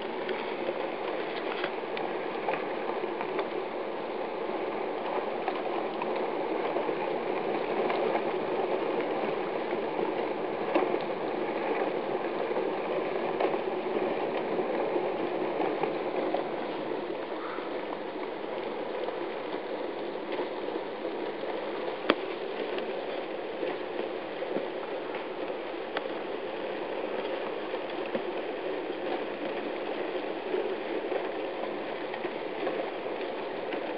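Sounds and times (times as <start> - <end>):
river ice grinding and crackling: 0.0 - 33.9.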